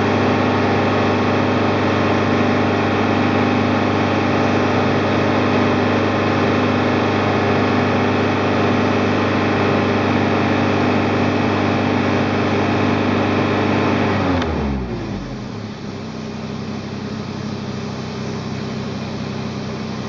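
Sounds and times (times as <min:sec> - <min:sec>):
car engine running steadily: 0:00.0 - 0:20.0.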